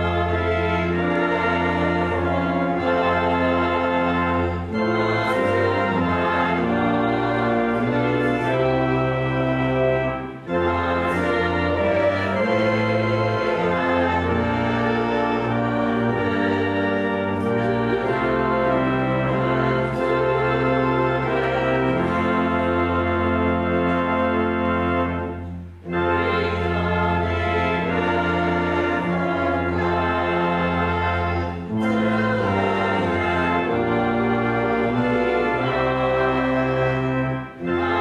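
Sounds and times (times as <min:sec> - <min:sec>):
church pipe organ chords: 0:00.0 - 0:38.0.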